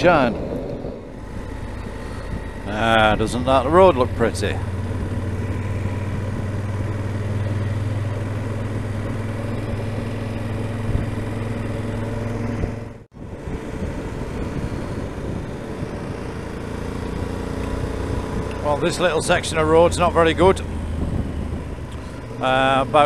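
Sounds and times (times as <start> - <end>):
motorcycle engine cruising: 0.0 - 23.0
wind and road noise: 0.0 - 23.0.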